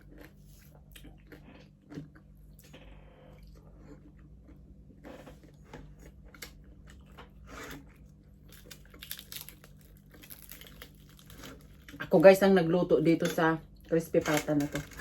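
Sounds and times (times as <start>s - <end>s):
chewing crispy pork skin: 0.0s - 12.5s.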